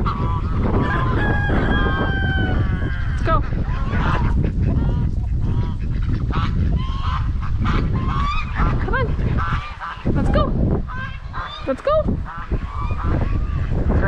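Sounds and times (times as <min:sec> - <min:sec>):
geese honking: 0:00.0 - 0:13.8
wind rumbling on microphone: 0:00.0 - 0:14.0.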